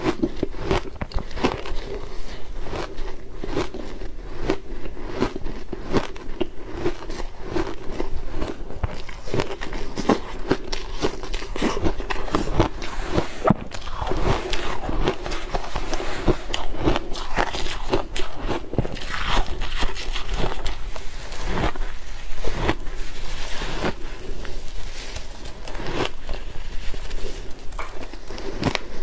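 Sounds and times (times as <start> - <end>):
chewing crunchy ice: 0.0 - 29.0.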